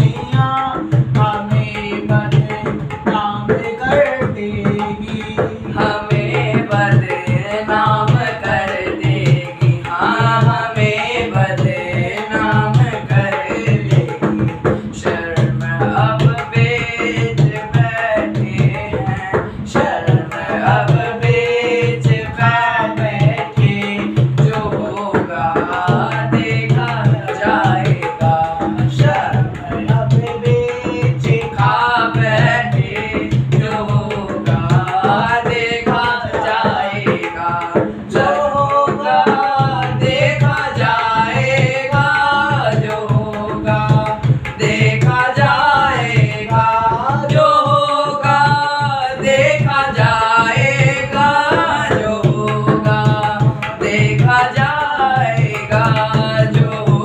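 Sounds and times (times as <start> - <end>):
hand drum rhythm: 0.0 - 57.0
young man singing: 0.0 - 57.0.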